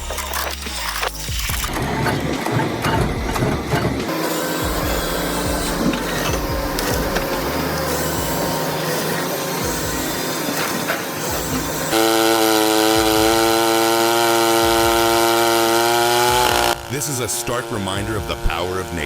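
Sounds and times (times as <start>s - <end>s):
chainsaw engine running: 0.0s - 19.0s
rough wood and machinery noise: 0.0s - 19.0s.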